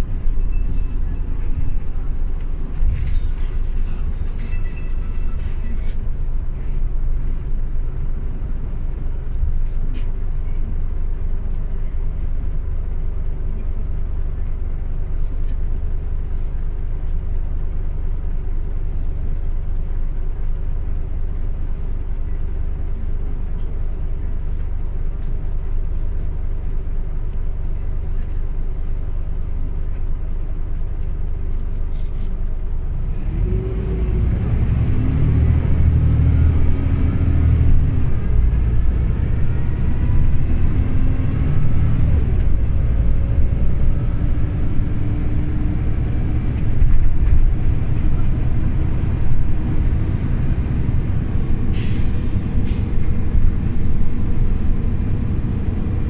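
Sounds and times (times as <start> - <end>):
bus engine accelerating: 0.0 - 56.0.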